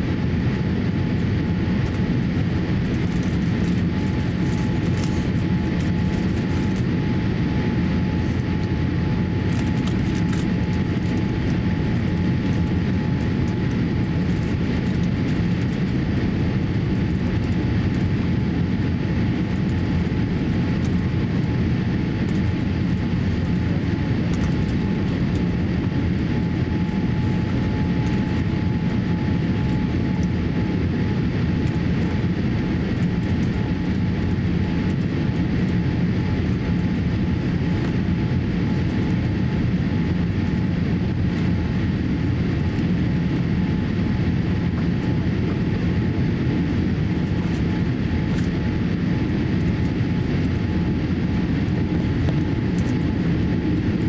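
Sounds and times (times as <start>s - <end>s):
engine and airflow rumble: 0.0s - 54.0s
thin steady whine: 0.0s - 54.0s.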